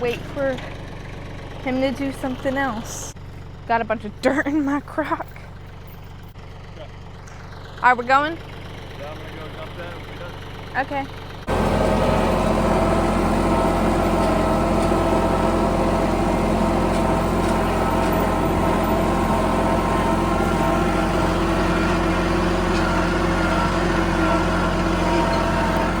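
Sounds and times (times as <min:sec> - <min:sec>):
tractor engine running steadily: 0:00.0 - 0:26.0.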